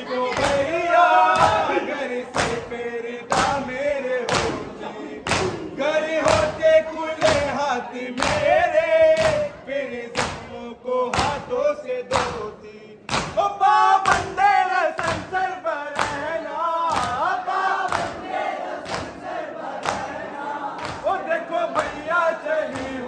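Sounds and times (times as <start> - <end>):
crowd beating chests in unison: 0.0 - 23.0
men singing a lament together: 0.0 - 23.0.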